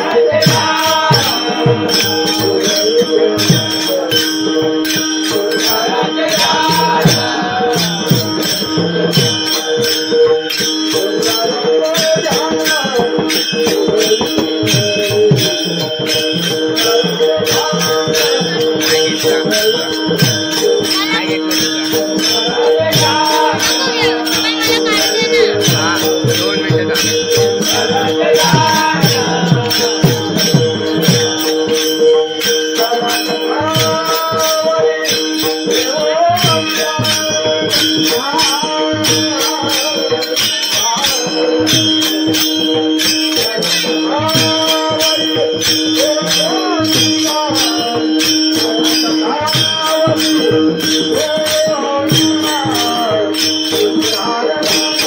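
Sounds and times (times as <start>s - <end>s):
metallic percussion: 0.0s - 55.0s
voices singing devotional song: 0.0s - 55.0s.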